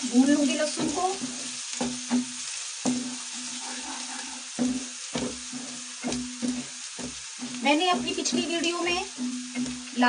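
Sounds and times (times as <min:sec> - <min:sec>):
spices sizzling in hot oil: 0:00.0 - 0:10.0
spatula scraping pan: 0:00.2 - 0:10.0.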